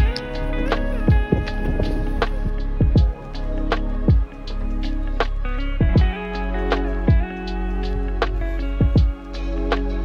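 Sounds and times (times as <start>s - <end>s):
pop music with steady beat: 0.0s - 10.0s.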